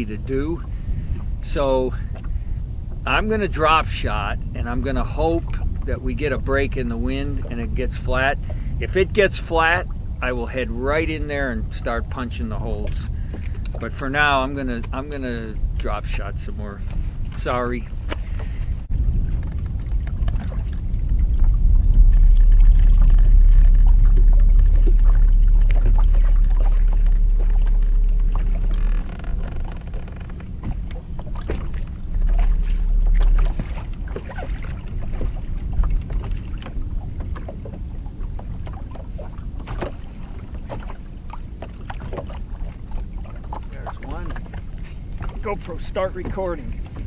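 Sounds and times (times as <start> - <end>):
waves lapping against boat hull: 0.0 - 47.0
wind buffeting microphone: 0.0 - 47.0.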